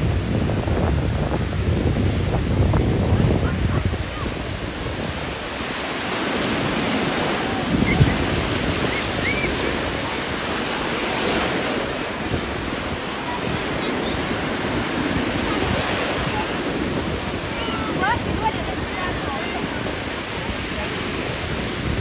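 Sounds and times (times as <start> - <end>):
small waves washing on sand: 0.0 - 22.0.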